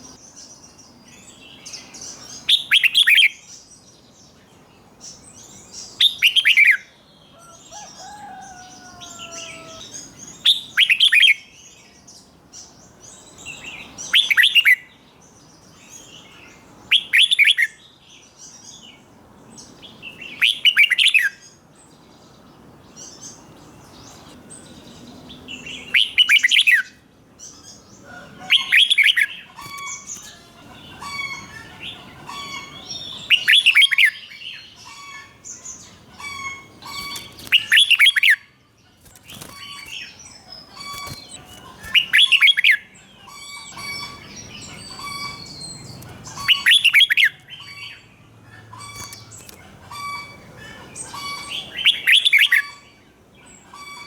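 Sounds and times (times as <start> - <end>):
bird singing loud song phrase: 0.0 - 54.0
faint bird chirping: 0.0 - 54.0.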